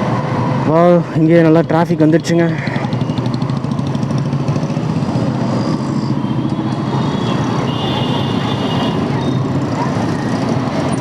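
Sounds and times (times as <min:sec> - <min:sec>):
traffic rumble: 0:00.0 - 0:11.0
motorcycle engine running: 0:01.8 - 0:11.0.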